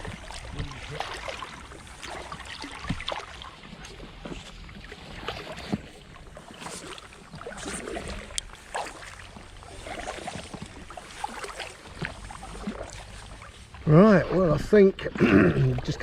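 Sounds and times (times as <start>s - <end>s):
paddle splashing in water: 0.0s - 16.0s.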